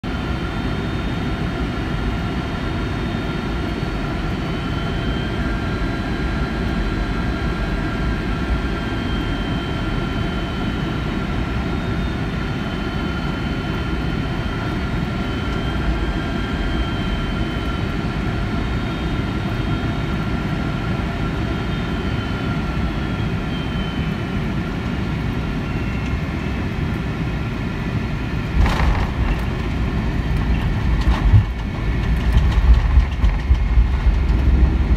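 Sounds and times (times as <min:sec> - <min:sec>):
airplane cabin rush with whining: 0:00.0 - 0:34.9
wheels rumbling on runway: 0:00.0 - 0:34.9.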